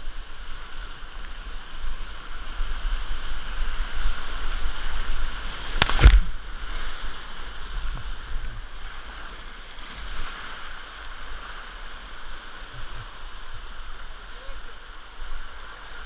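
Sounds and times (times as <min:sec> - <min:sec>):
whitewater rapids rushing: 0:00.2 - 0:16.0.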